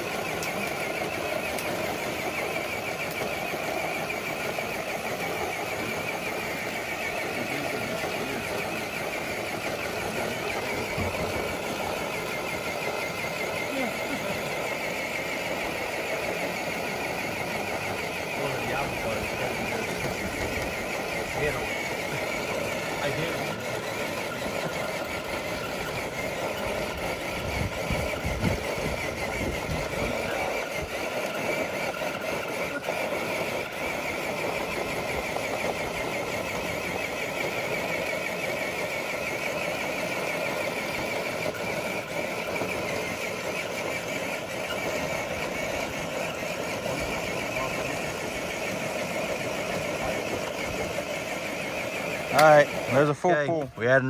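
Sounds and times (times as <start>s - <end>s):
electric motor and gears whining: 0.0s - 54.0s.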